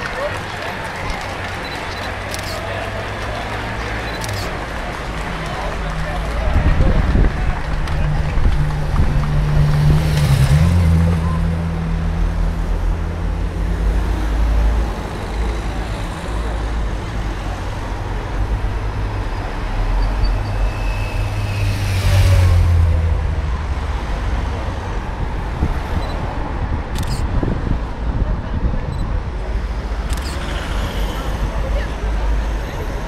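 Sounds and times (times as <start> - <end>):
vehicles driving past: 0.0 - 33.0.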